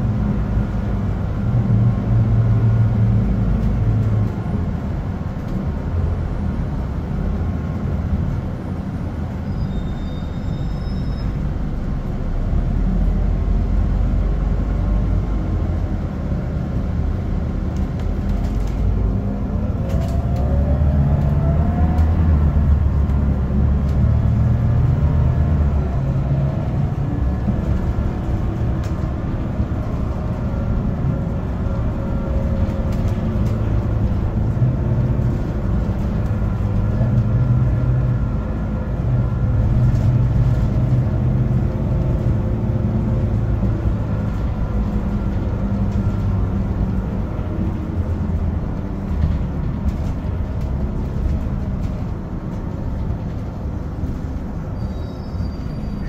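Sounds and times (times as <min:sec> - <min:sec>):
bus engine drone: 0:00.0 - 0:56.0
road noise: 0:00.0 - 0:56.0.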